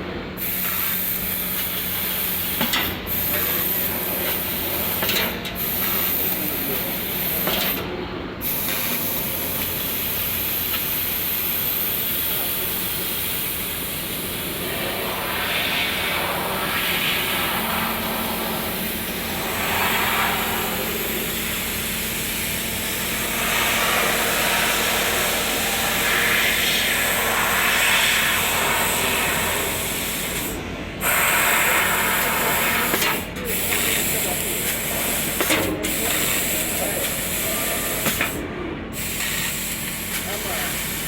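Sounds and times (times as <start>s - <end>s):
steady hum: 0.0s - 41.0s
laser cutter hiss: 0.4s - 41.0s.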